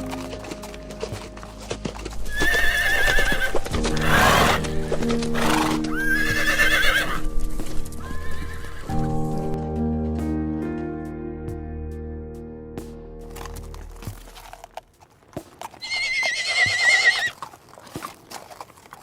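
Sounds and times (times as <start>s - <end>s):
background music sustained notes: 0.0s - 17.2s.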